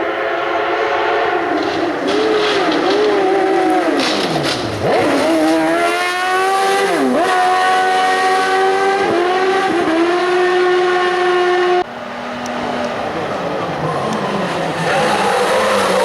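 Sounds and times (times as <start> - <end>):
racing car engine at high revs: 0.6 - 16.0.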